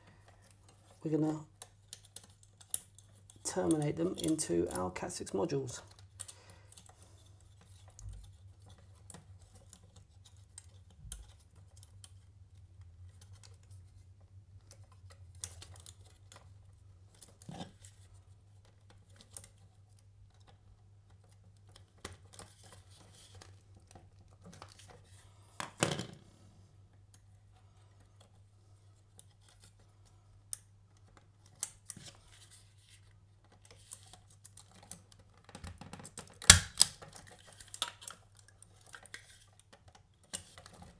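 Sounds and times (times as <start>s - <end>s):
clicks and scratching of wires: 0.0s - 25.8s, 26.9s - 40.9s.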